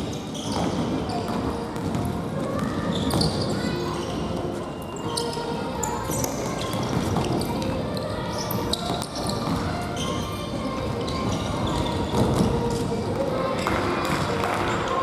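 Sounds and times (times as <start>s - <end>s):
shoes squeaking on court: 0.0s - 15.0s
players' voices: 0.4s - 15.0s.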